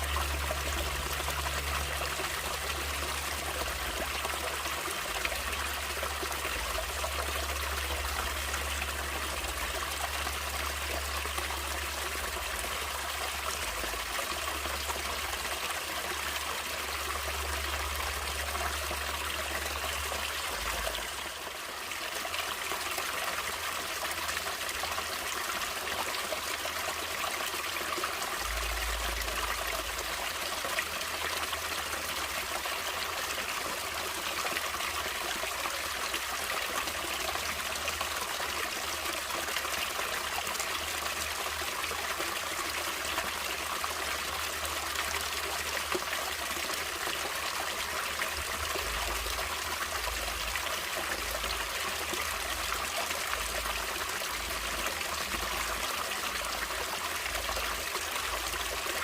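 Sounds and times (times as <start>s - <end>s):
stream of running water: 0.0s - 59.0s.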